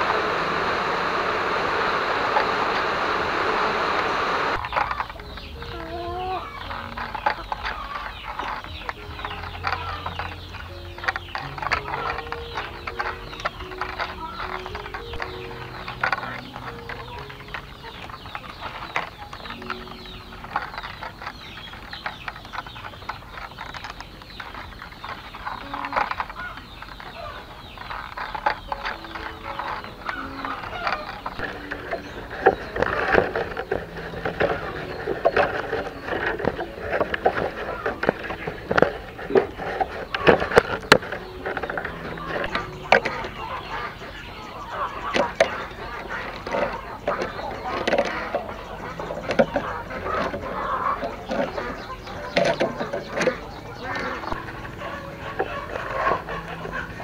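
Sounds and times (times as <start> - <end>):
bamboo strips rustling and clicking: 0.0 - 57.0
chicken clucking: 0.0 - 57.0.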